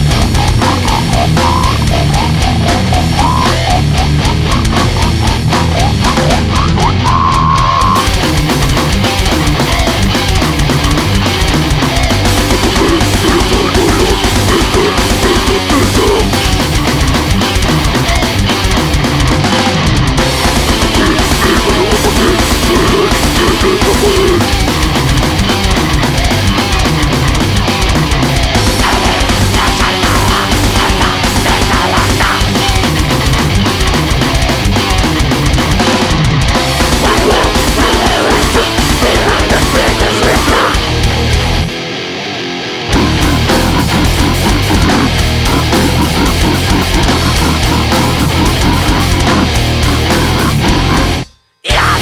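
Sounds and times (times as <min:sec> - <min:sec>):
fast dense drumming: 0:00.0 - 0:41.8, 0:42.9 - 0:52.0
distorted metal guitars: 0:00.0 - 0:52.0.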